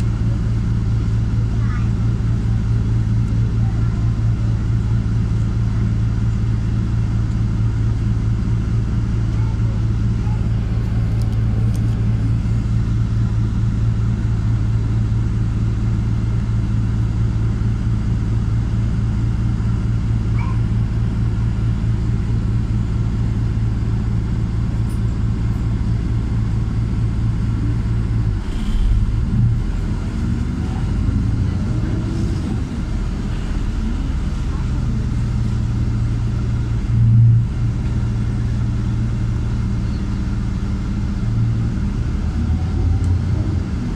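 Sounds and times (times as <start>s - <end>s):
bus engine idling: 0.0s - 43.9s.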